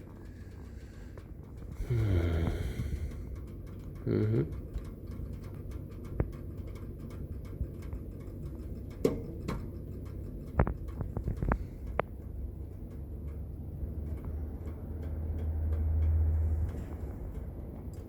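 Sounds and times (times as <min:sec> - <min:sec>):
low steady hum: 0:00.0 - 0:18.0
small clicks and taps of tools: 0:02.6 - 0:18.0.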